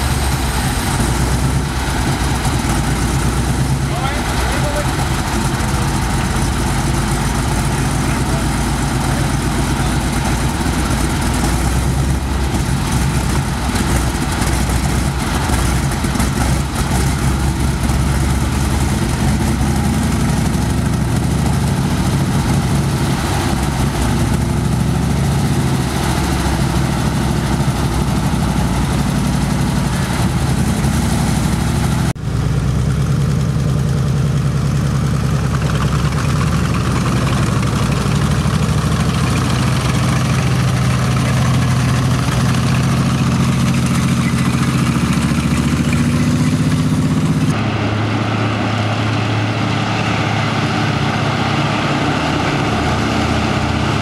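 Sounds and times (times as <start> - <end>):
tank moving: 0.0 - 32.8, 34.8 - 54.0
tank engine idling: 0.0 - 54.0.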